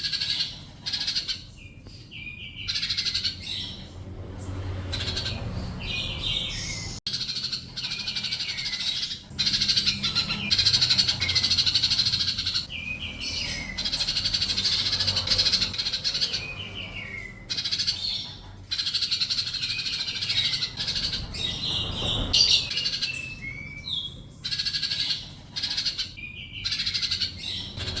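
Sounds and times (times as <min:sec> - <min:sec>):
sunbird trilling and chattering: 0:00.0 - 0:28.0.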